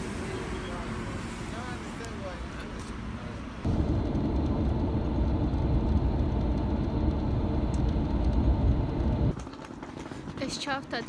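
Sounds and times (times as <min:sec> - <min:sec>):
bus engine and tyre rumble: 0:00.0 - 0:11.0.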